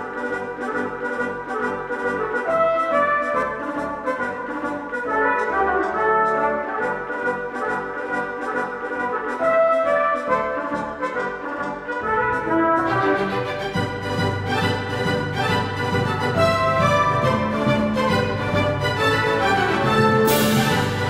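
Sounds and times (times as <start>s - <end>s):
instrumental music with a beat: 2.4s - 21.0s.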